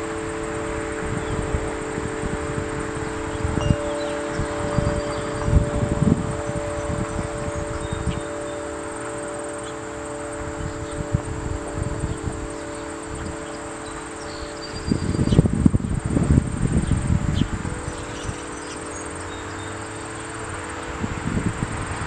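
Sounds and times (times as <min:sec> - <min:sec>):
insects trilling: 0:00.0 - 0:22.0
wind buffeting microphone: 0:00.0 - 0:22.0.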